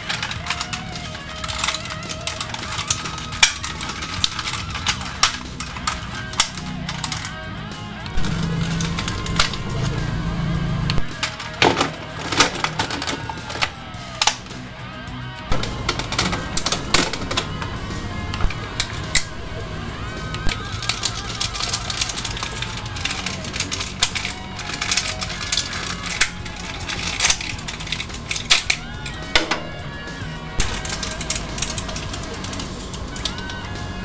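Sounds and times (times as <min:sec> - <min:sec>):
background music: 0:00.0 - 0:34.0
plastic parts clicking and snapping: 0:00.0 - 0:34.0.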